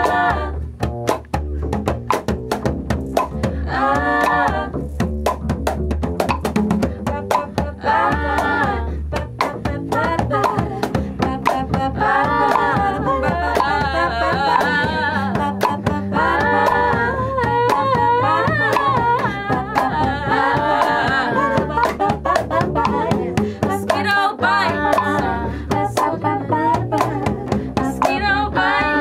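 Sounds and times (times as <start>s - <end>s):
women singing in harmony: 0.0s - 1.0s, 3.3s - 4.9s, 7.0s - 29.0s
hand percussion beat: 0.0s - 29.0s
upright bass: 0.0s - 29.0s.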